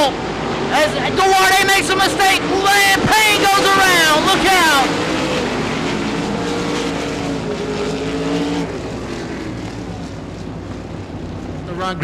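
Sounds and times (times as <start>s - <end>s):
racing car engines droning: 0.0s - 12.0s.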